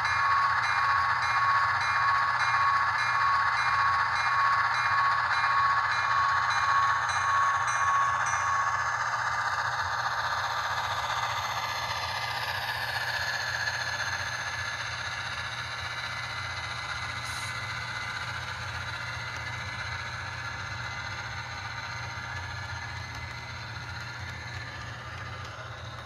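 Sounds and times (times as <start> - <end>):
model train diesel engine sound: 0.0 - 26.0
model wheels rattling on track: 0.3 - 26.0.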